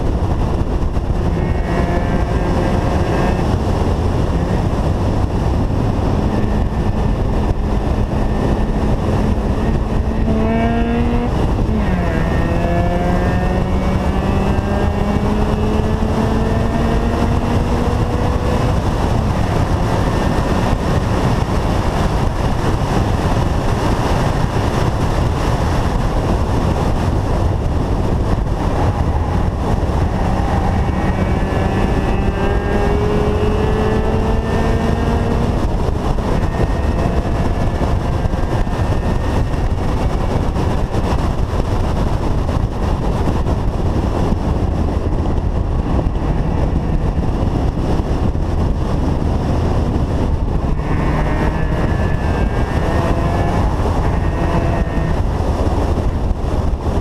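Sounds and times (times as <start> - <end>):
rotary engine revving: 0.0 - 24.7, 25.3 - 56.3.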